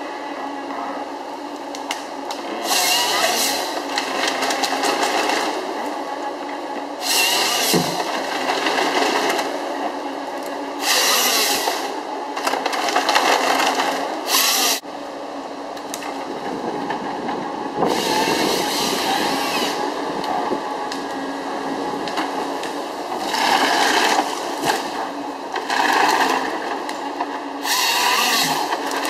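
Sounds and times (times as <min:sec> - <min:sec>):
harvester engine and hydraulics: 0:00.0 - 0:29.0.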